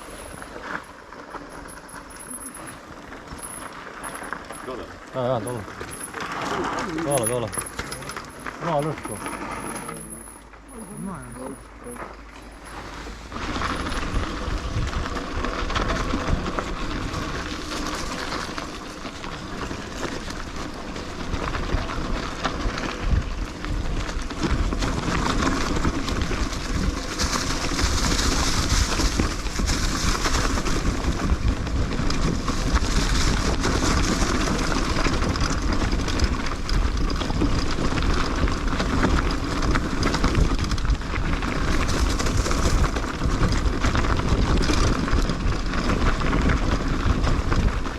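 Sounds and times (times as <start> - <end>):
mountain bike rattling on trail: 0.0 - 47.9.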